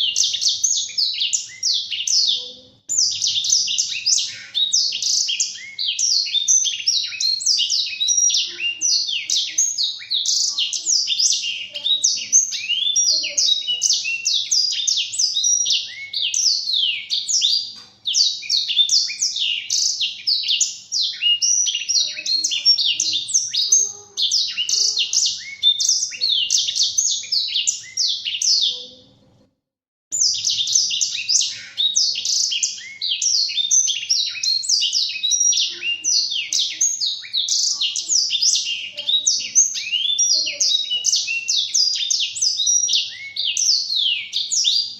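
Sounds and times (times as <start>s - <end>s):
canary singing rapid warble: 0.0s - 29.5s, 30.1s - 44.9s.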